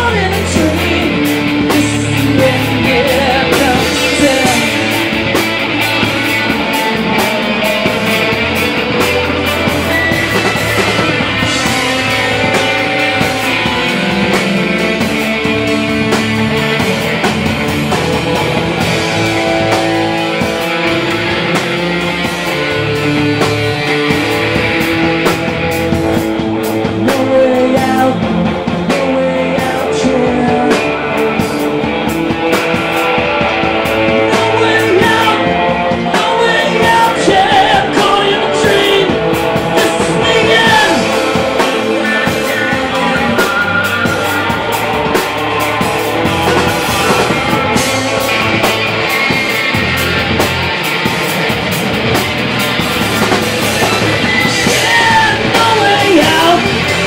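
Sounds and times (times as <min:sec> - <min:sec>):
bass guitar: 0:00.0 - 0:57.0
drum kit with cymbal hits: 0:00.0 - 0:57.0
electric guitars: 0:00.0 - 0:57.0.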